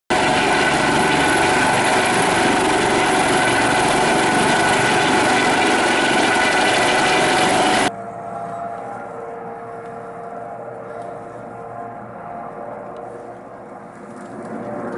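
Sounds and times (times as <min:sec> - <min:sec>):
helicopter hovering: 0:00.1 - 0:14.9.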